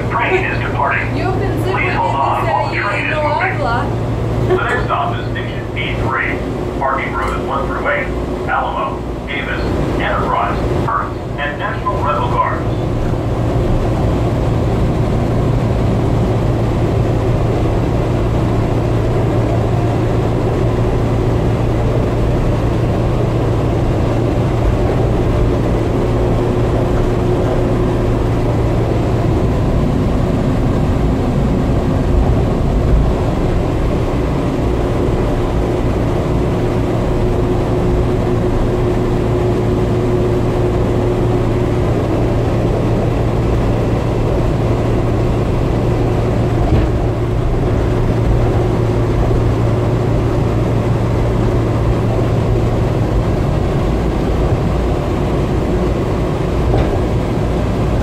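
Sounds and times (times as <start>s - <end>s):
faint whine: 0.0s - 58.0s
monorail car rumbling: 0.0s - 58.0s.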